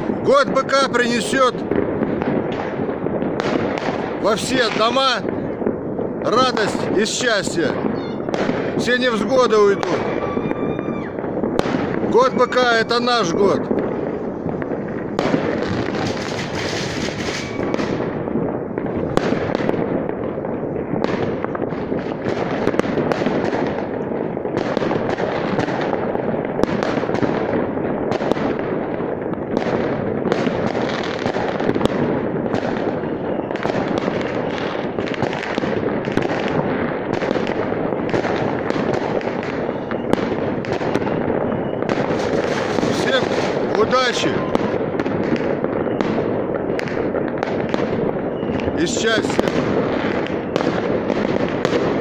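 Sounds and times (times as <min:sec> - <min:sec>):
fireworks crackling and banging: 0:00.0 - 0:52.0
sharp firework cracks: 0:00.0 - 0:52.0.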